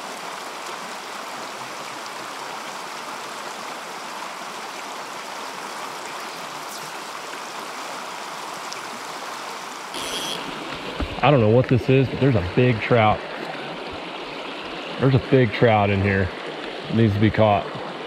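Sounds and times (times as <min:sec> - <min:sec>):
mountain stream flowing: 0:00.0 - 0:18.0.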